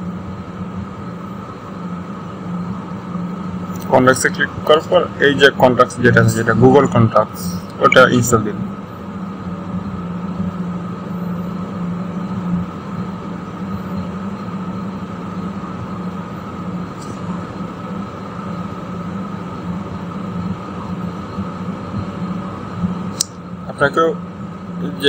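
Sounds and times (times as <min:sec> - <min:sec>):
low drone: 0:00.0 - 0:23.1.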